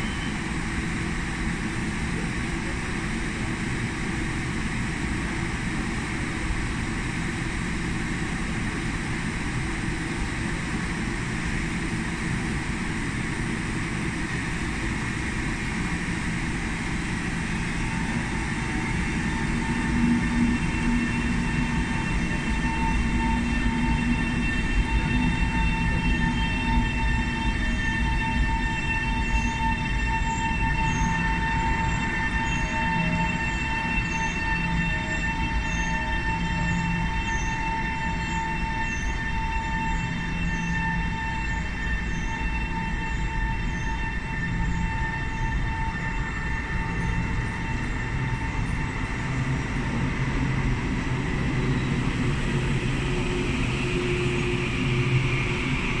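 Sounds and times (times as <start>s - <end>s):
approaching train rumble: 0.0s - 56.0s
train electrical hum and whine: 0.0s - 56.0s.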